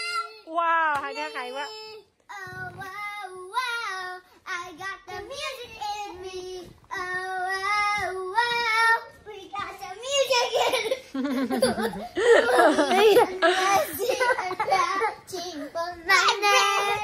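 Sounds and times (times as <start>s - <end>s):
girl singing: 1.7s - 10.7s, 12.2s - 17.0s.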